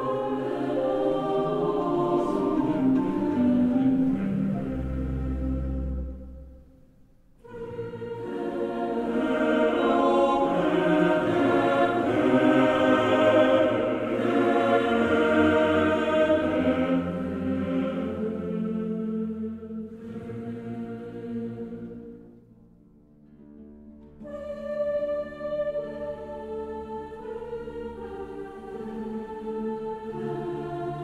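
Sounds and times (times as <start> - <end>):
choir singing: 0.0 - 6.6, 7.4 - 22.4, 24.2 - 31.0.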